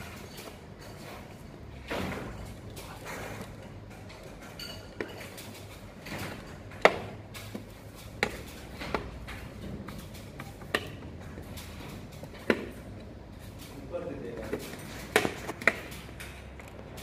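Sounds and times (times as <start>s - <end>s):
sharp clicks and taps of hand work: 2.6s - 13.8s, 14.4s - 17.0s.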